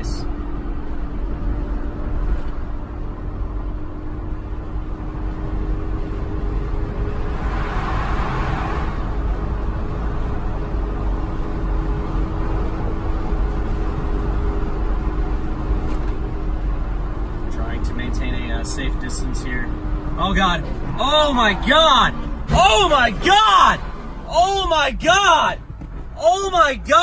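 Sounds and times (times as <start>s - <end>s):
car cabin road and engine noise: 0.0s - 27.0s.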